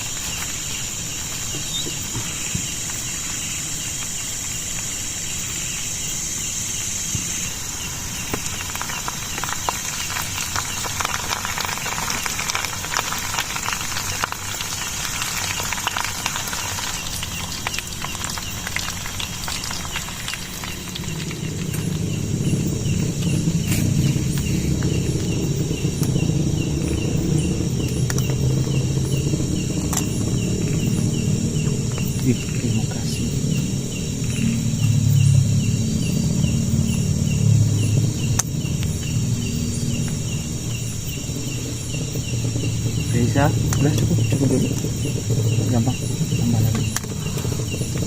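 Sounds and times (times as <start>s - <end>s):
crackling ticks: 0.0s - 48.0s
insects buzzing: 0.0s - 48.0s
low rumble: 6.8s - 48.0s.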